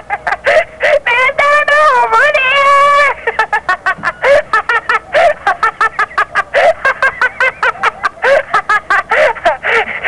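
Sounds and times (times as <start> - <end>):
person cackling: 0.0 - 1.2, 2.4 - 10.0.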